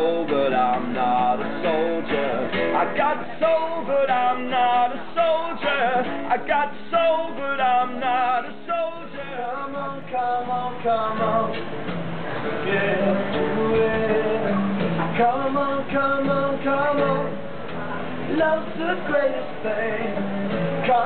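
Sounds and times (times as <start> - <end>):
acoustic guitar melody: 0.0 - 21.0.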